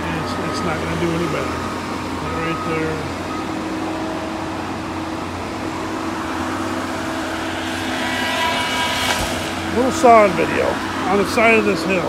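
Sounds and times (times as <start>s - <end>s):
heavy machine drone: 0.0s - 12.0s.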